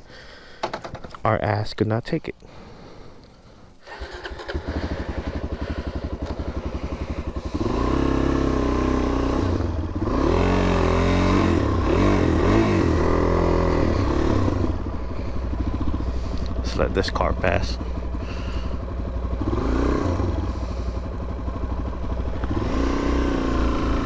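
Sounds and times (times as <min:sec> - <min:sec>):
motorcycle engine: 0:02.5 - 0:24.0.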